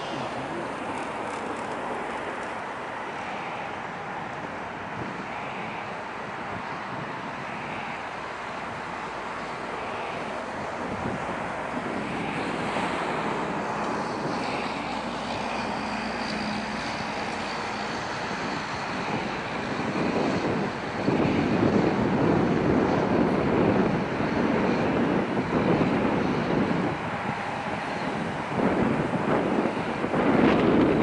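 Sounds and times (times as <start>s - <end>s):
jet engines roaring: 0.0s - 31.0s
wind buffeting microphone: 0.0s - 31.0s.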